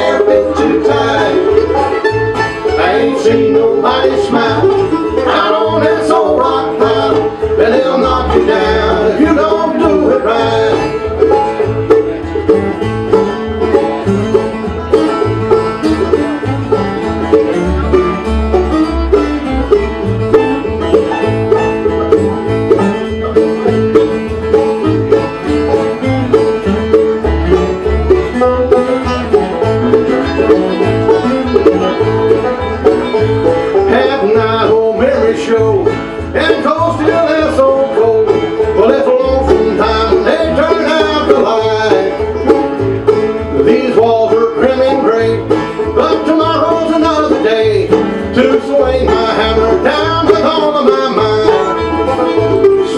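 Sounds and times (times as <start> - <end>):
banjo picking: 0.0 - 52.9
bluegrass band playing: 0.0 - 52.9
low bass notes: 0.0 - 52.9.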